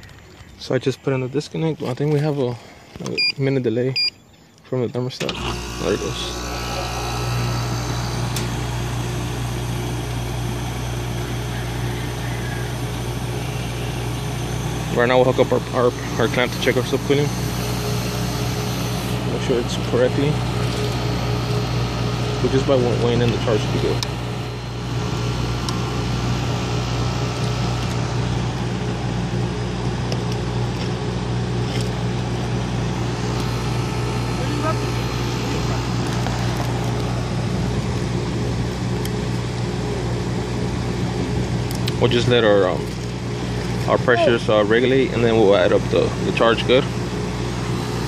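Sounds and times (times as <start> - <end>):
air conditioning unit humming: 0.0 - 48.0.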